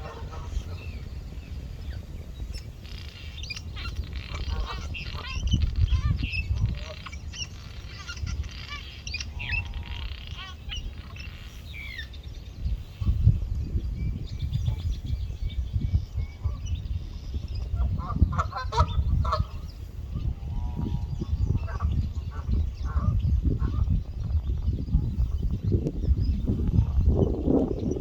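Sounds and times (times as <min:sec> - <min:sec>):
birds chirping and calling: 0:00.0 - 0:28.0.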